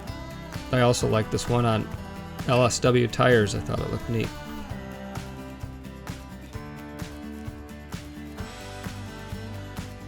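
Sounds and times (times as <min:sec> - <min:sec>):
background music with guitar: 0:00.0 - 0:10.0.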